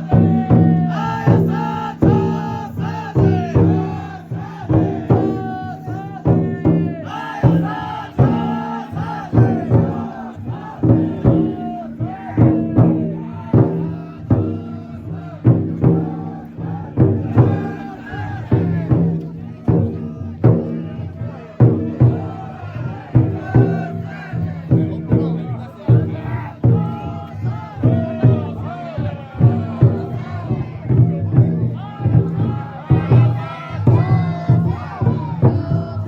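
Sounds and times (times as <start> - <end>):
group chanting and shouting: 0.0 - 36.0
taiko drum beating: 0.0 - 36.0.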